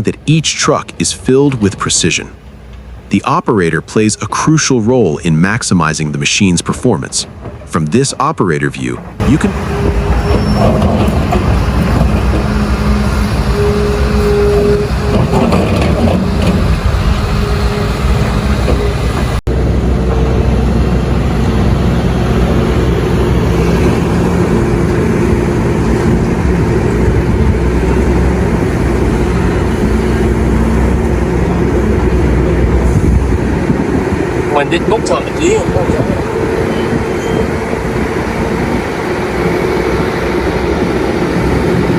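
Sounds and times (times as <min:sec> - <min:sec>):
excavator diesel engine under load: 0:00.0 - 0:41.9.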